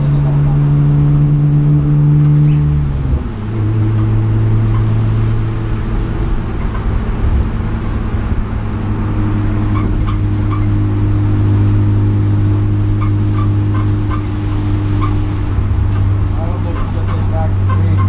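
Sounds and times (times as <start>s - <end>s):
race car engine droning: 0.0s - 18.0s.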